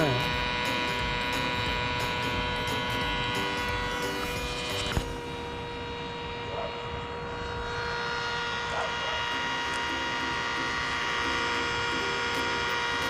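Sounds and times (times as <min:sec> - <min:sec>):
multi-cutter whining: 0:00.0 - 0:13.0.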